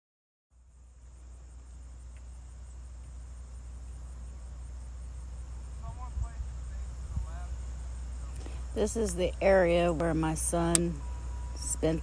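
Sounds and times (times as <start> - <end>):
crickets chirping: 0.6 - 12.0
low rumble: 0.6 - 12.0.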